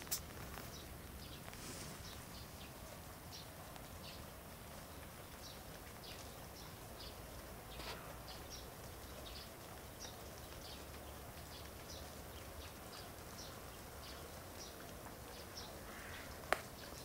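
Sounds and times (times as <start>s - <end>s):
faint steady hiss: 0.0s - 17.0s
small bird chirping: 0.0s - 17.0s.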